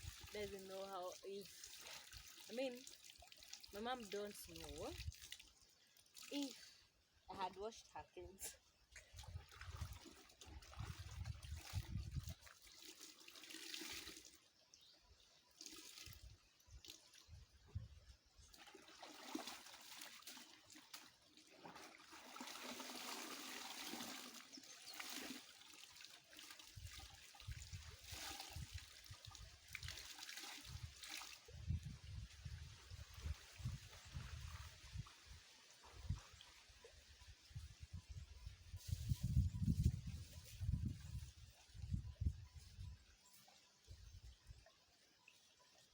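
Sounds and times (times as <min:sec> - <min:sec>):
stream water trickling and splashing: 0:00.0 - 0:45.9.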